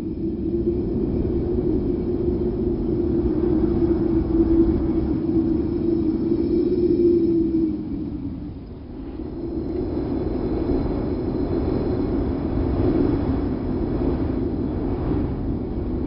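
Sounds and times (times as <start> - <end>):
deep rushing wind: 0.0 - 16.0.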